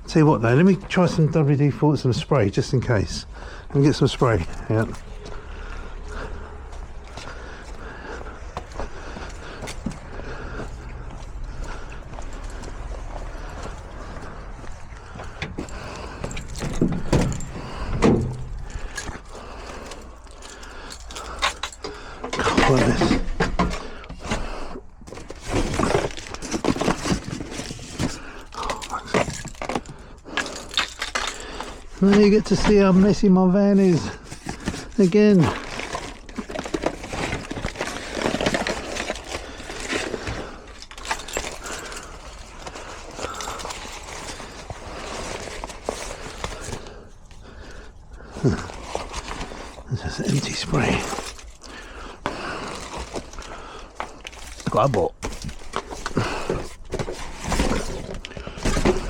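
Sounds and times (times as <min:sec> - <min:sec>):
knocks and rattles of handling: 0:00.0 - 0:59.0
tools and cans clattering: 0:07.0 - 0:33.2, 0:33.8 - 0:59.0.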